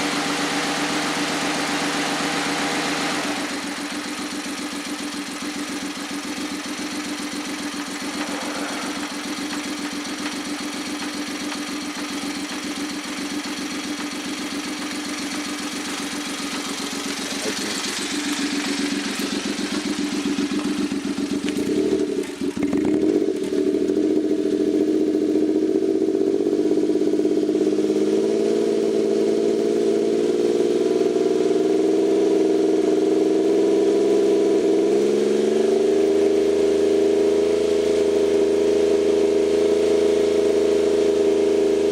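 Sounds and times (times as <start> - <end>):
three-cylinder engine running: 0.0 - 41.9.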